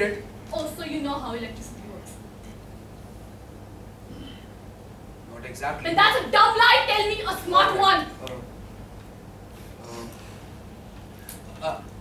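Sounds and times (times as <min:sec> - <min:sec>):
low hum of hall: 0:00.0 - 0:12.0.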